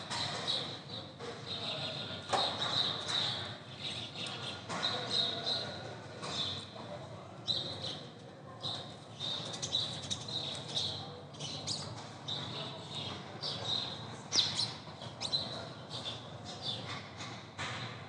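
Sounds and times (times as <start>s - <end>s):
small birds chirping and squawking: 0.1s - 6.8s, 7.4s - 17.0s.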